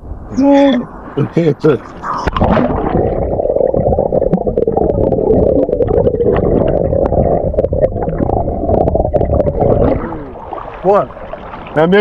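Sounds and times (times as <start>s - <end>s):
muffled sloshing underwater: 1.8s - 12.0s.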